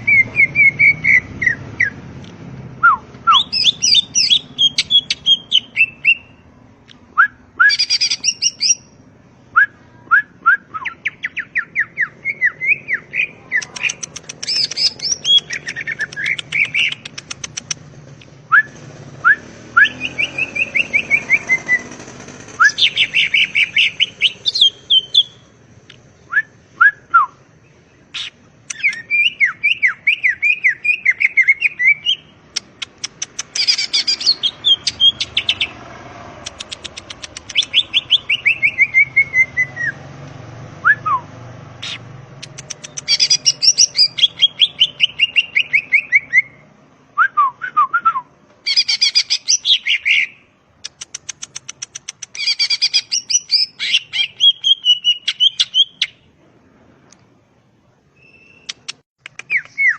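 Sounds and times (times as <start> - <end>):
bird singing fast chirps: 0.0 - 2.1, 2.8 - 6.5, 7.2 - 40.1, 40.8 - 46.7, 48.6 - 56.3, 58.2 - 59.9.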